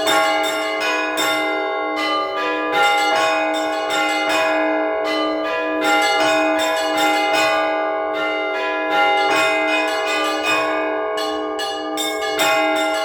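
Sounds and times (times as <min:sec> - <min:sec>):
deep church bell: 0:00.0 - 0:13.0
smaller bells striking quickly: 0:00.0 - 0:13.0.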